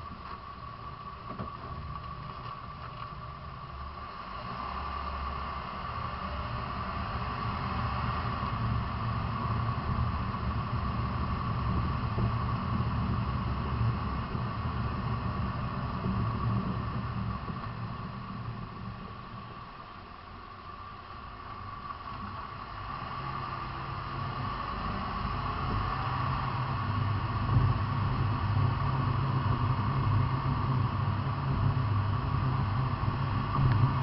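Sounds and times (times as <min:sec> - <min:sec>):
steady high whine: 0:00.0 - 0:34.0
vehicle engine rumble: 0:00.0 - 0:34.0.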